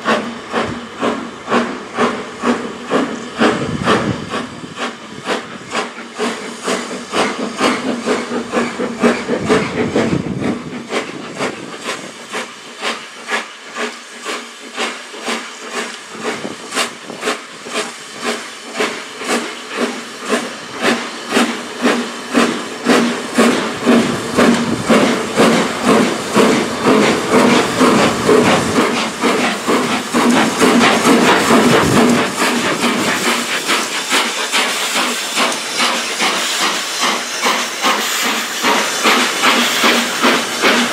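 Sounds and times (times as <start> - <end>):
steam hiss: 0.0 - 40.9
steam locomotive exhaust beats: 0.0 - 40.9.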